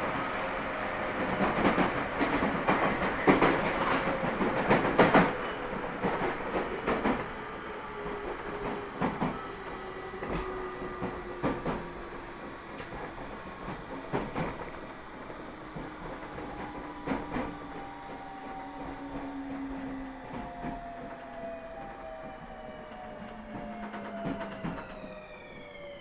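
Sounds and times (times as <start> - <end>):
train motor whine: 0.1 - 26.0.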